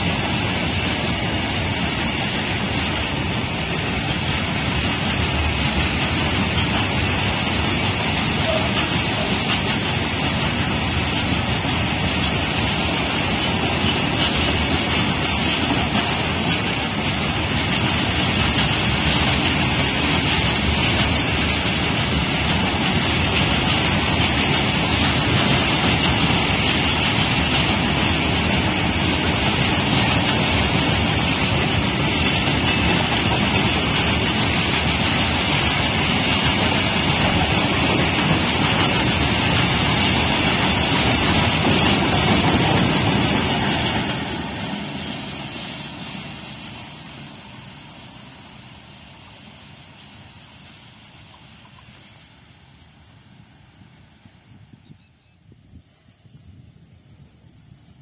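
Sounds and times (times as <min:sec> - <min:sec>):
steel wheels rolling on rails: 0:00.0 - 0:54.7.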